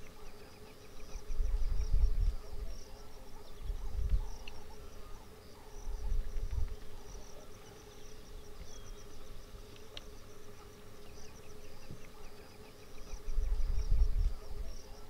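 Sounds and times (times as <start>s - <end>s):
insects chirping and buzzing: 0.0s - 15.0s.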